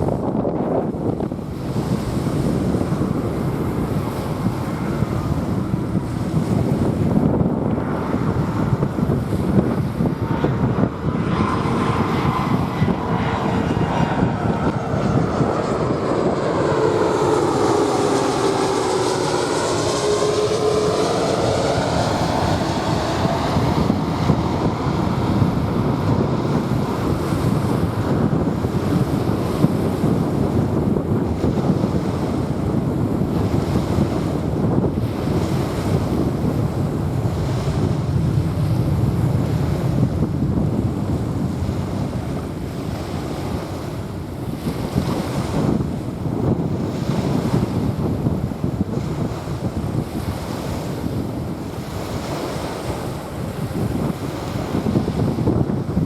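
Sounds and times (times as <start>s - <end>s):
jet airliner engine whine: 0.0s - 56.0s
wind buffeting microphone: 0.0s - 56.0s
surf: 1.2s - 56.0s.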